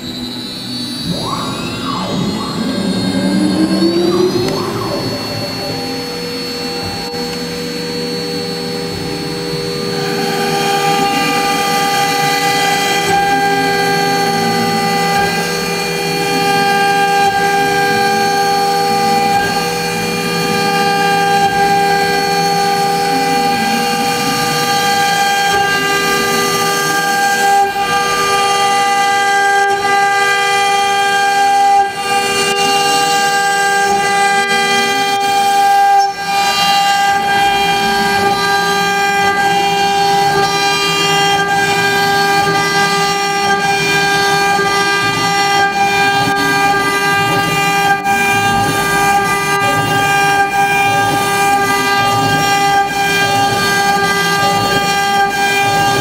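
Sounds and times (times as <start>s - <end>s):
cutter milling wood: 0.0s - 56.0s
router spindle whine: 0.0s - 56.0s.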